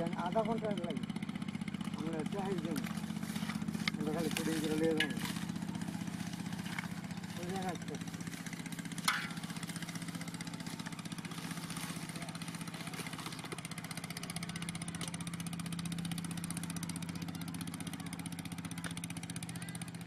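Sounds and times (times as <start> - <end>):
small engine puttering: 0.0 - 20.0.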